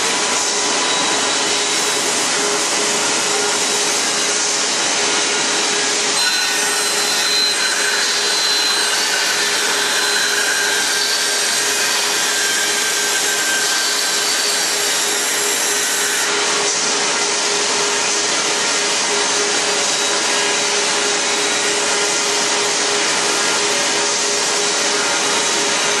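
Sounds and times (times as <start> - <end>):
band saw whine: 0.0 - 26.0
band saw machine hiss: 0.1 - 26.0.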